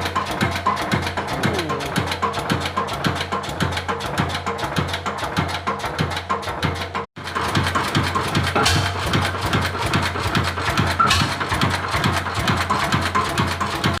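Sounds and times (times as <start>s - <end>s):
stationary engine idling slowly: 0.0s - 14.0s.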